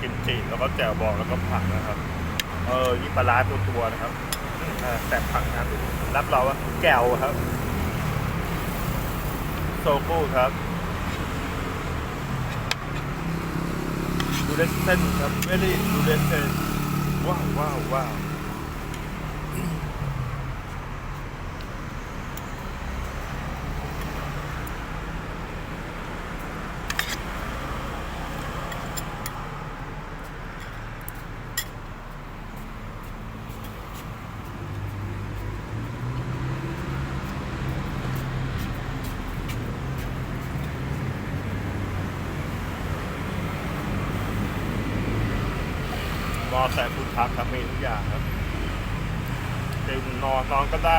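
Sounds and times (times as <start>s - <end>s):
vehicle engines humming: 0.0s - 50.9s.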